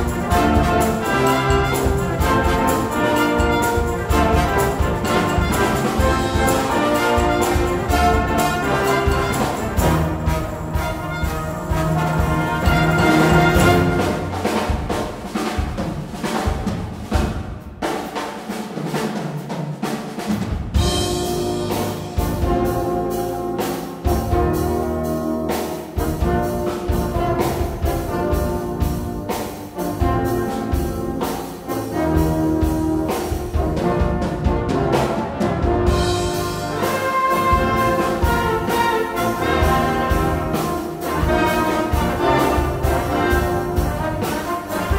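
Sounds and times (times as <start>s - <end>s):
brass band playing: 0.0s - 44.9s
timpani: 0.0s - 44.9s.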